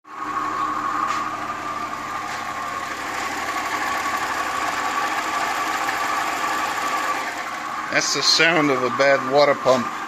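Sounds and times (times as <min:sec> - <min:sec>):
car engine humming: 0:00.1 - 0:10.0.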